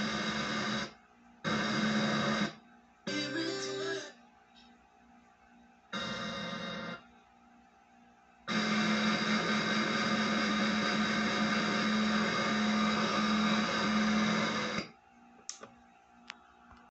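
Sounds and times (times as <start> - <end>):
radio static hiss with hum: 0.0 - 16.9.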